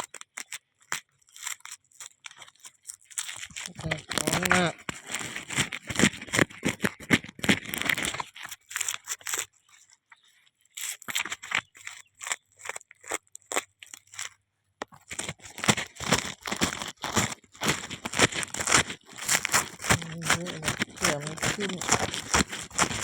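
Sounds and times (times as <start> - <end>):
crunching and rustling: 0.0 - 23.0.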